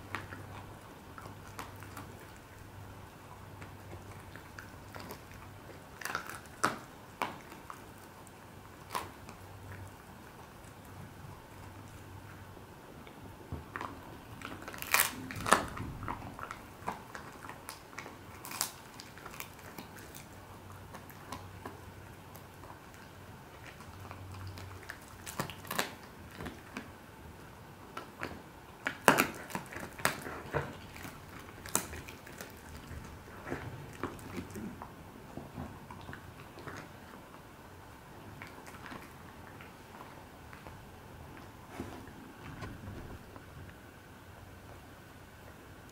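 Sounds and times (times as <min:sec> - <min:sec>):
dog crunching bone: 0:00.0 - 0:27.0, 0:27.8 - 0:43.8.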